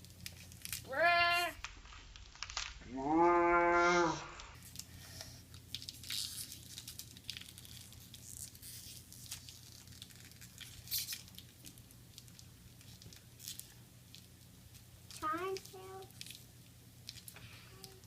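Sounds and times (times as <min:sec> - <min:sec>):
plastic packaging crinkling: 0:00.0 - 0:01.0, 0:01.6 - 0:02.8, 0:04.6 - 0:18.0.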